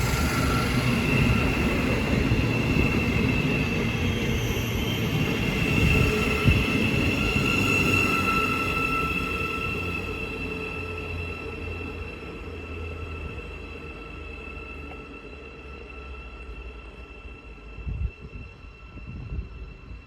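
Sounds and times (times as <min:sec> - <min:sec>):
electric train rumbling on track: 0:00.0 - 0:20.0
high whine of train: 0:00.0 - 0:20.0.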